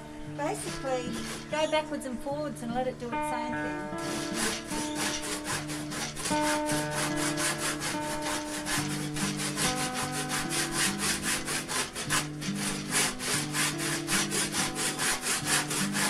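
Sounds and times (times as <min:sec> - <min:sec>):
background music with held notes: 0:00.0 - 0:16.0
handsaw cutting wood: 0:00.4 - 0:01.7, 0:03.9 - 0:16.0.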